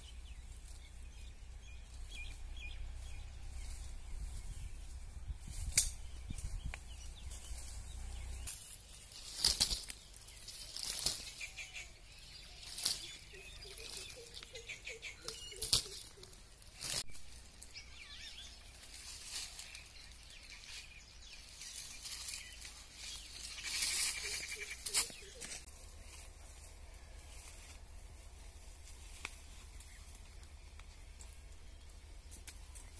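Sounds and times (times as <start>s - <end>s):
leaves and stems rustling and snapping: 5.4s - 32.9s.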